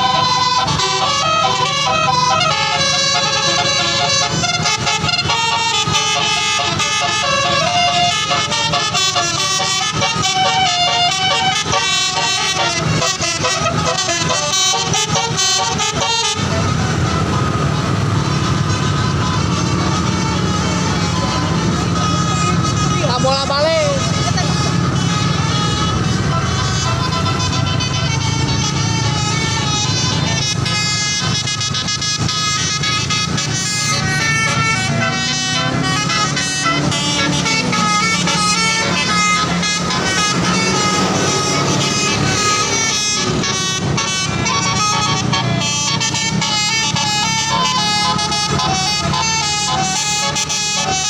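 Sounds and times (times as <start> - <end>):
engine and road noise: 0.0 - 51.0
musical bus air horn: 0.0 - 51.0.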